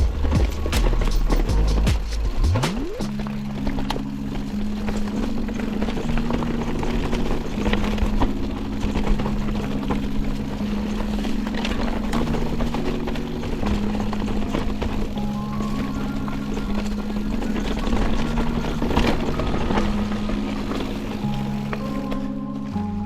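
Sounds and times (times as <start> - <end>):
mountain bike rushing over rocks: 0.0 - 22.8
background music with held notes: 0.0 - 23.0.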